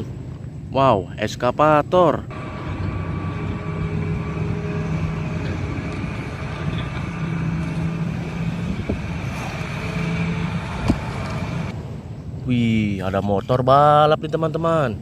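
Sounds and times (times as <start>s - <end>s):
engine-like hum: 0.0s - 15.0s.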